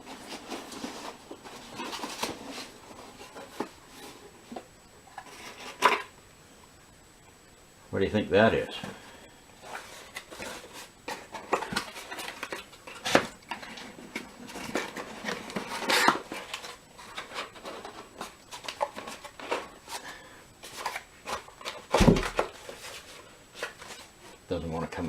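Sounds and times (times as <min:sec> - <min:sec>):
packaging rustling and scraping: 0:00.0 - 0:06.1, 0:08.8 - 0:24.5.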